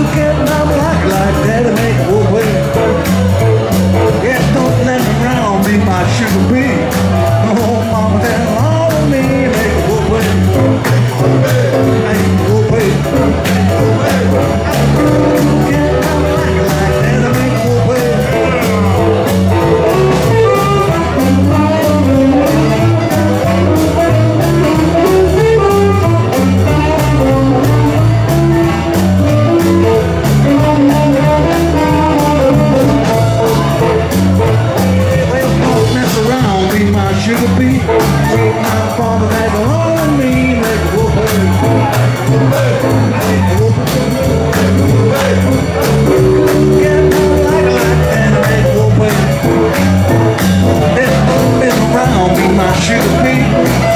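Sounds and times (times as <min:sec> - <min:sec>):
live band playing: 0:00.0 - 0:53.9.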